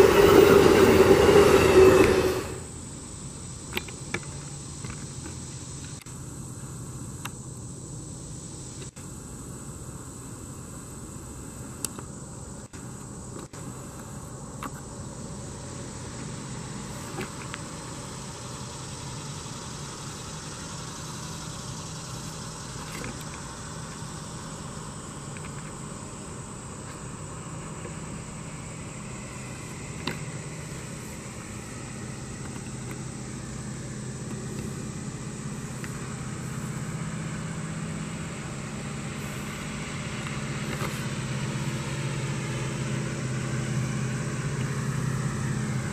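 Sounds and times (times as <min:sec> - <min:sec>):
diesel locomotive engine drone: 0:00.0 - 0:45.9.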